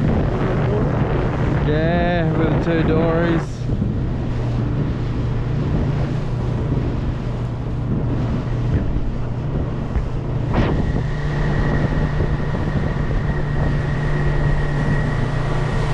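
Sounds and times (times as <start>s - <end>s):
boat motor running: 0.0s - 15.9s
wind buffeting microphone: 0.0s - 15.9s.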